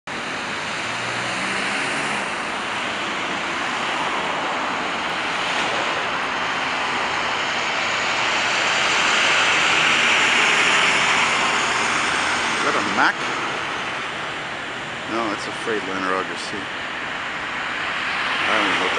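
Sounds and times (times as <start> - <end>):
road traffic noise: 0.0 - 18.9.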